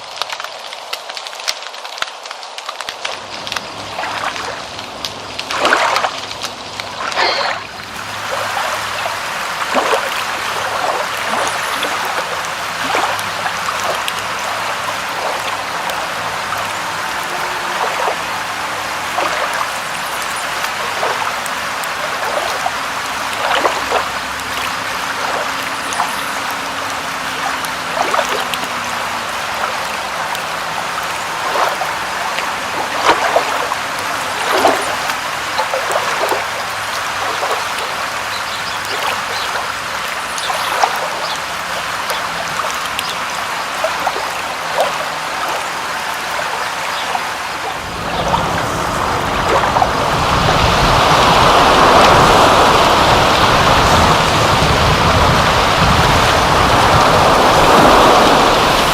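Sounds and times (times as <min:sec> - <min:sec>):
water running and trickling: 0:00.0 - 0:58.9
water splashes and drops: 0:00.0 - 0:58.9.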